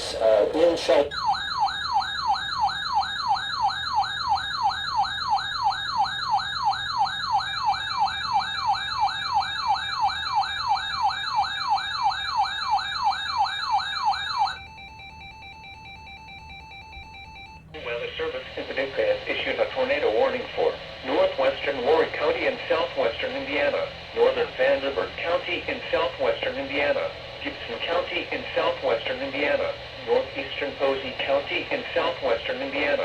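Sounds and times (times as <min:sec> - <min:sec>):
warbling electronic alert siren: 0:01.0 - 0:27.5.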